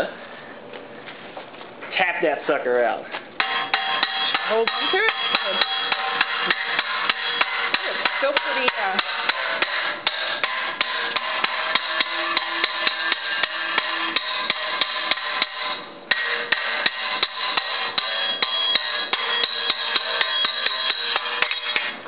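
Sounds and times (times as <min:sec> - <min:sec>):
hammer blows on metal tube: 0:03.4 - 0:22.0.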